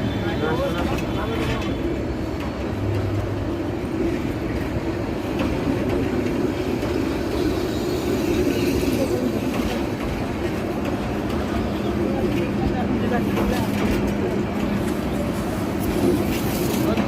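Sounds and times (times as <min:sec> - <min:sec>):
train running on rails: 0:00.0 - 0:17.0.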